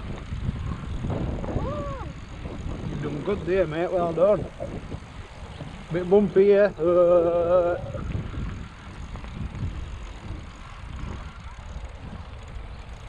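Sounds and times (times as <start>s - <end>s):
bicycle rumbling on bumpy path: 0.0s - 13.0s
wind buffeting microphone: 0.0s - 13.0s.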